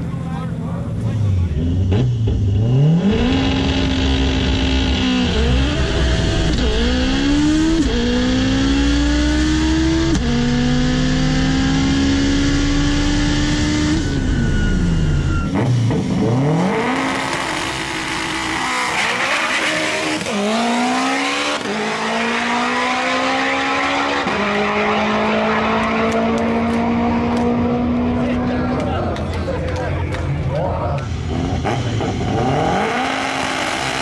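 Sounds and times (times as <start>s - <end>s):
car engine at full throttle: 0.0s - 34.0s.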